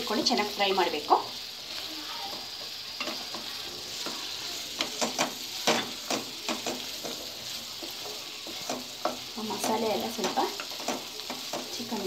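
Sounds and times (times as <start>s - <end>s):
meat sizzling in a pan: 0.0s - 12.0s
spoon clinking and scraping pan: 2.3s - 12.0s.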